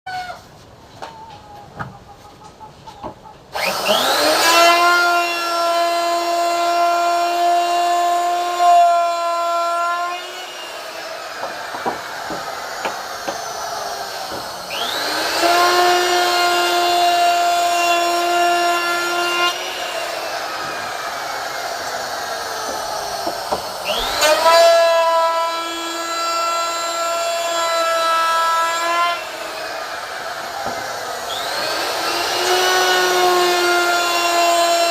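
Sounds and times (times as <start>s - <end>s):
power tool high-pitched whine: 3.6s - 34.9s.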